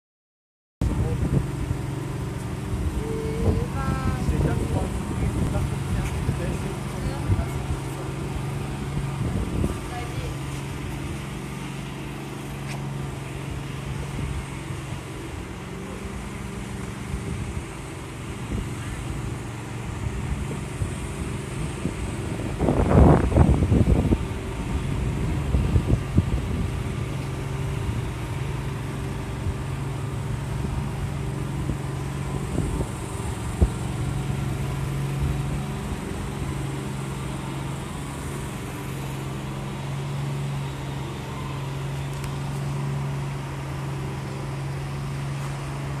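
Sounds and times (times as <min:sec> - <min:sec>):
loud rumble: 0:00.8 - 0:39.1
low motor hum: 0:00.8 - 0:46.0.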